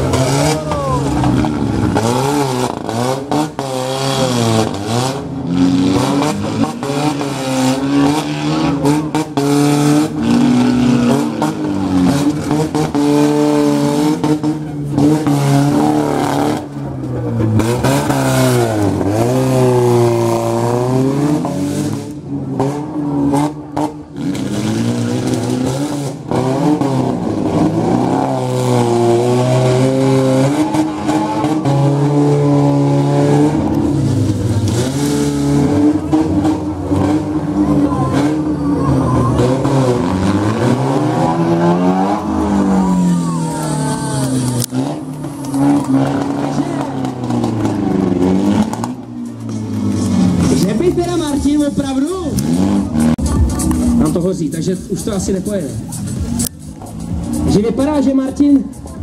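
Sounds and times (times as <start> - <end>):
car engines revving hard: 0.0 - 59.0.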